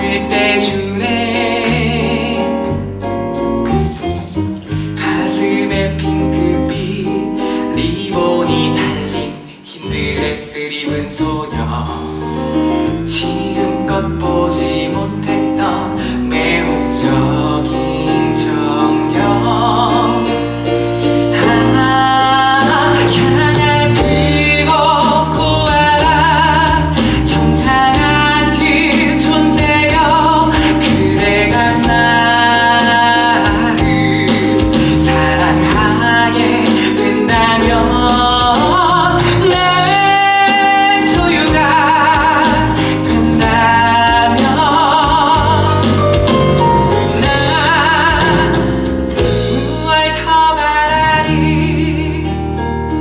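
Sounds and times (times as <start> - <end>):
instrumental accompaniment: 0.0 - 53.0
voices singing with vibrato: 4.7 - 48.8.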